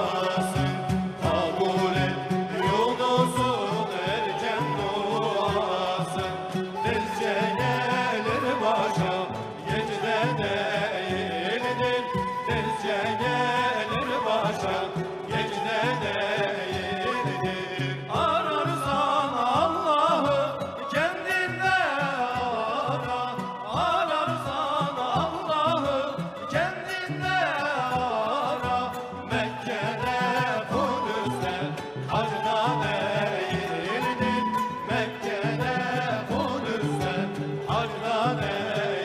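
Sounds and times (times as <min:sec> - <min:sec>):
person singing ornamented melody: 0:00.0 - 0:39.0.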